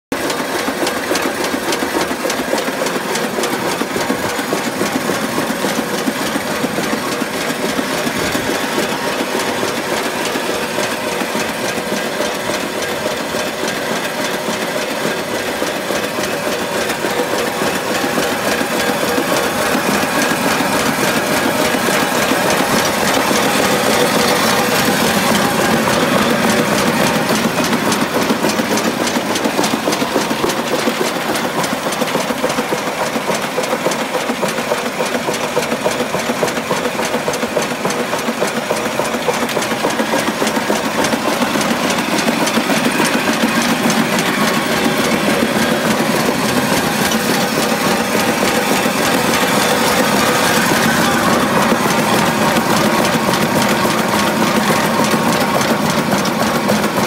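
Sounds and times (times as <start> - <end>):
machine rattling: 0.2 - 57.0.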